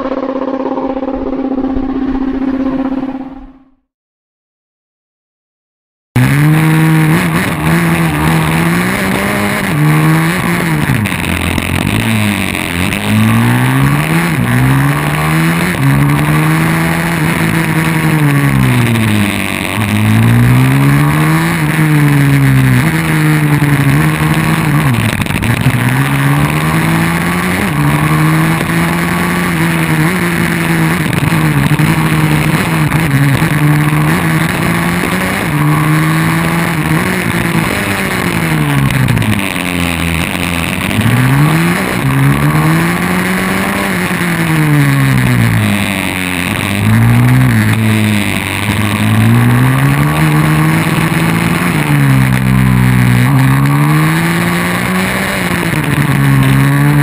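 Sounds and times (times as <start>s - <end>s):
motorbike engine revving: 0.0s - 3.8s, 6.2s - 57.0s.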